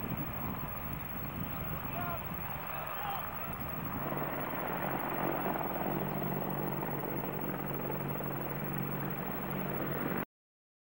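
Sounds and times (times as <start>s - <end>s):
low hum: 0.0s - 10.2s
helicopter rotor and turbine: 0.0s - 10.3s.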